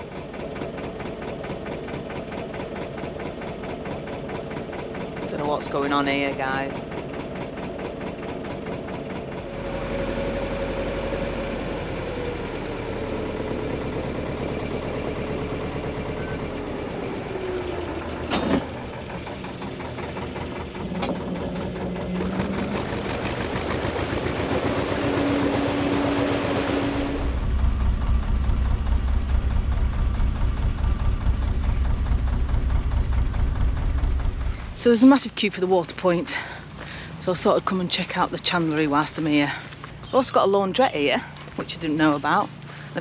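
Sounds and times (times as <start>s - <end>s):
boat engine running: 0.0s - 43.0s.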